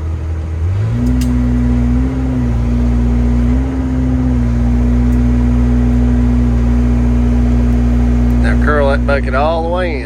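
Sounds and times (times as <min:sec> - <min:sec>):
excavator diesel engine: 0:00.0 - 0:10.0.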